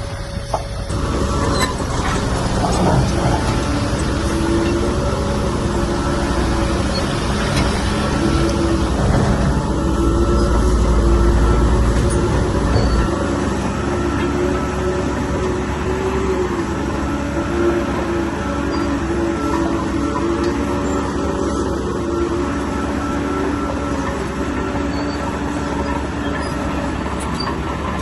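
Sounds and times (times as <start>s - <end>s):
heavy diesel machinery droning: 0.0s - 28.0s.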